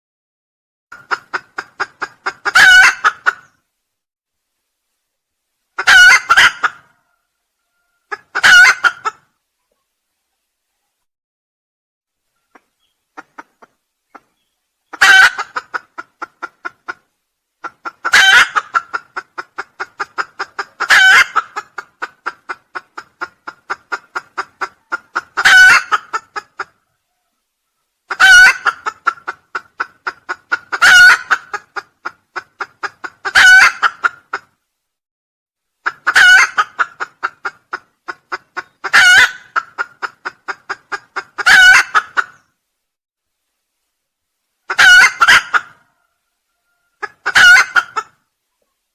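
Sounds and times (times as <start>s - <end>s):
junglefowl clucking: 0.9s - 3.6s, 5.8s - 9.9s, 12.3s - 34.6s, 35.8s - 42.5s, 44.6s - 48.8s
junglefowl calls: 1.0s - 3.6s, 5.8s - 9.9s, 12.3s - 17.0s, 17.6s - 34.5s, 35.8s - 42.5s, 44.7s - 48.8s.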